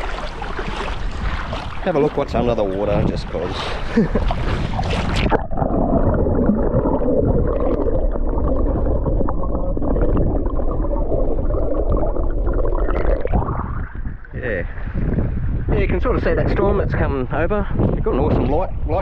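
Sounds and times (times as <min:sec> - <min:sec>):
underwater churning and gurgling: 0:00.0 - 0:16.6.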